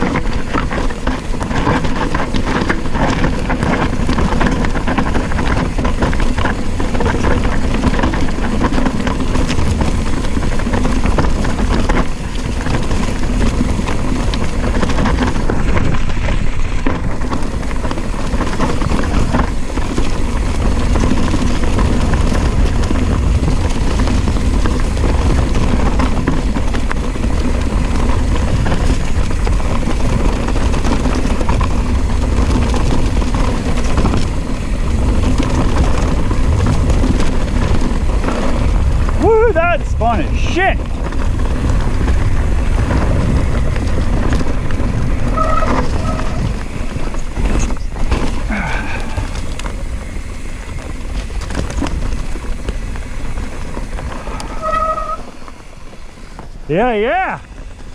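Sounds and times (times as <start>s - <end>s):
tyres on dirt: 0.0s - 57.9s
wind rushing on microphone: 0.0s - 57.9s.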